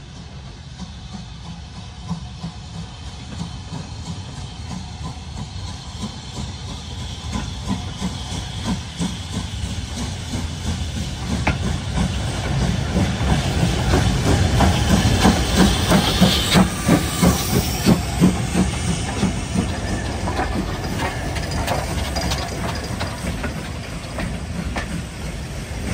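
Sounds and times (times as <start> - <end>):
steam hissing: 0.0 - 25.9
steam locomotive exhaust chuffs: 0.0 - 25.9.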